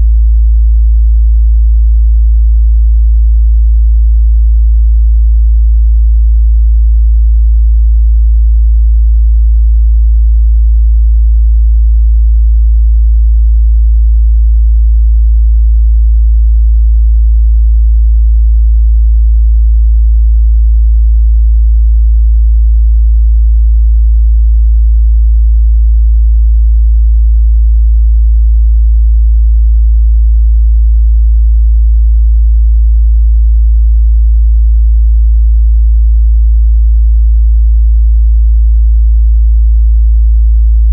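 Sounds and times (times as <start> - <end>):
deep sine-wave test tone: 0.0 - 40.9.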